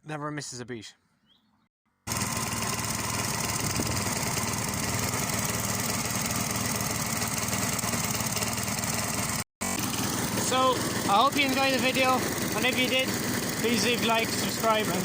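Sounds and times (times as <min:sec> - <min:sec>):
lawn mower engine running: 0:02.0 - 0:15.0.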